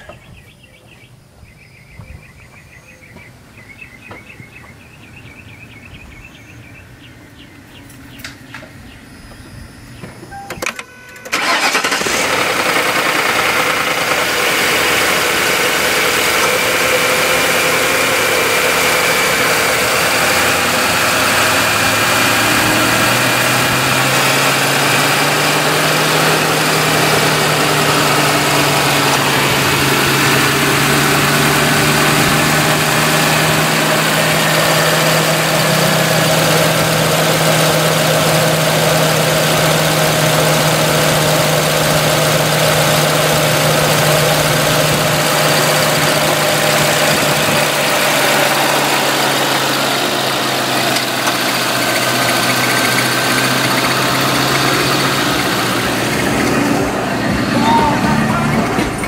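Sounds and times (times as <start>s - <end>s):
car engine starting and idling: 7.0s - 59.0s.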